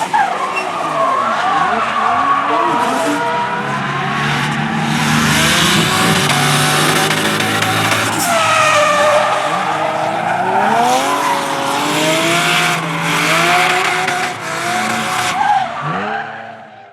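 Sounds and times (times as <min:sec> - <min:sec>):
car engine revving hard: 0:00.9 - 0:16.8.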